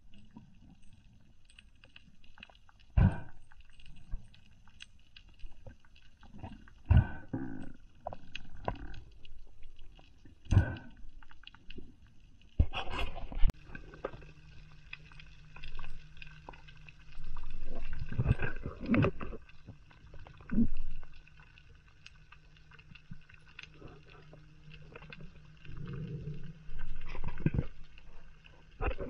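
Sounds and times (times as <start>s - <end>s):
low underwater hum: 0.0s - 29.0s
sharp clicks and crackles: 0.0s - 29.0s.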